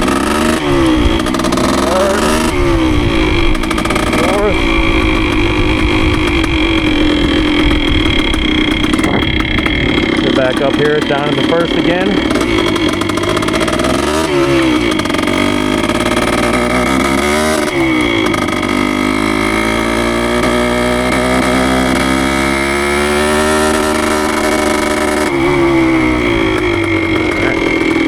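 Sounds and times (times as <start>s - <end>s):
motorcycle two-stroke engine running: 0.0s - 28.0s.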